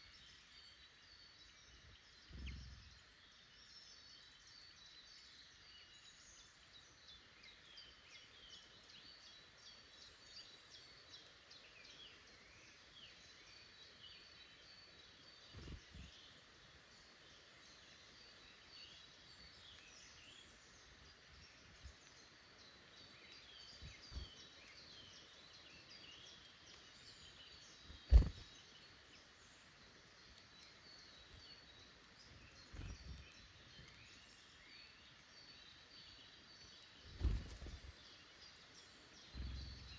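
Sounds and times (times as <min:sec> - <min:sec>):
birds chirping: 0:00.0 - 0:04.4, 0:10.1 - 0:16.5, 0:17.2 - 0:39.9.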